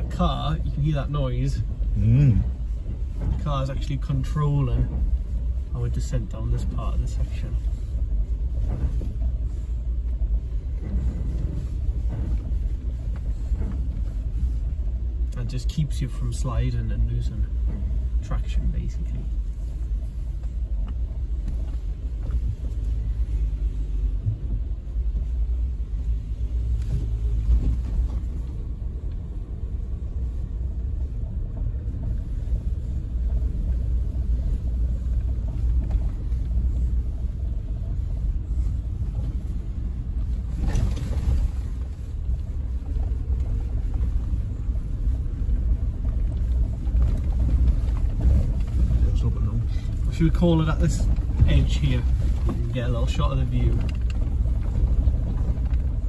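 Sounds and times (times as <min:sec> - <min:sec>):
car driving on gravel: 0:00.0 - 0:56.0.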